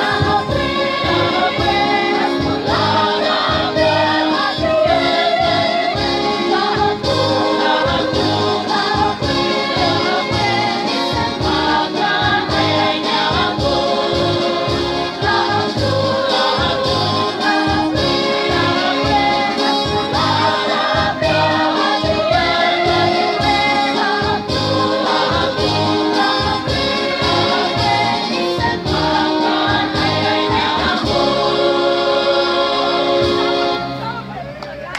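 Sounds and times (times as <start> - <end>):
mixed choir singing: 0.0 - 34.0.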